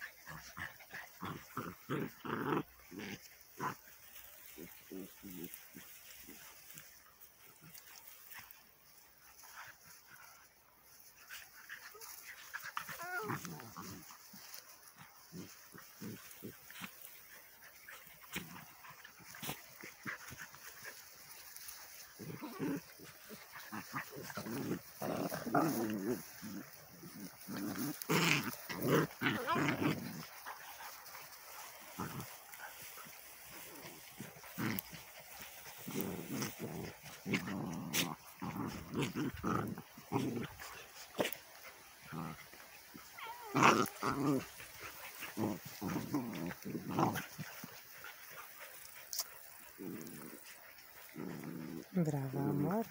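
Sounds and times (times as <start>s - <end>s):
puppies growling: 0.0s - 52.9s.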